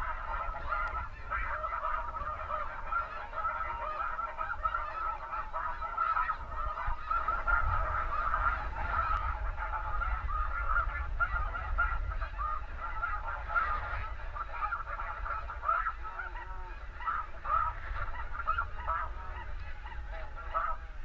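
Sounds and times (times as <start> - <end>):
geese honking in flight: 0.0 - 21.0.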